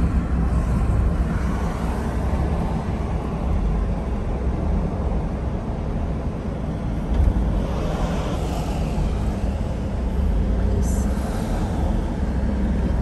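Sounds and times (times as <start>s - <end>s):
tyres and engine rumbling: 0.0s - 13.0s.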